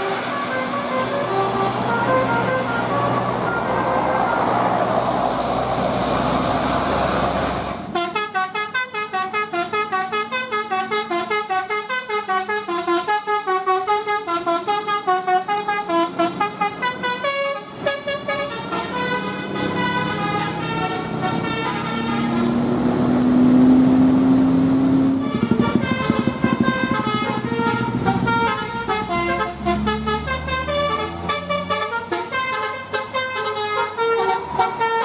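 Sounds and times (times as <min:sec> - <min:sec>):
musical bus horn tune: 0:00.0 - 0:04.8, 0:07.9 - 0:22.7, 0:25.0 - 0:35.0.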